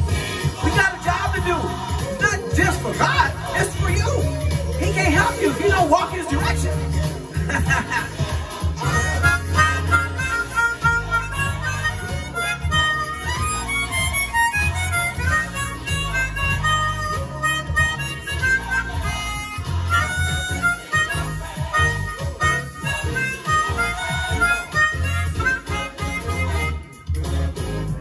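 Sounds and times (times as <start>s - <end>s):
harmonica melody: 0.0s - 28.0s
low bass accompaniment: 0.0s - 28.0s.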